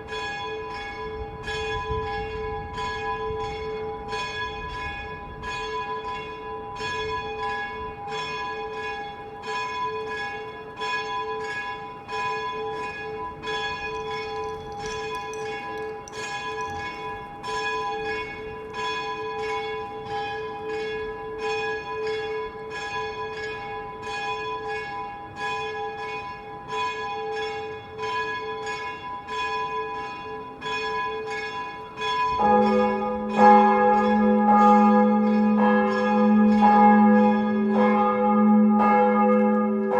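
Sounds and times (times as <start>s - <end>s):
church bells ringing: 0.0s - 39.9s
deep bell: 0.0s - 39.9s.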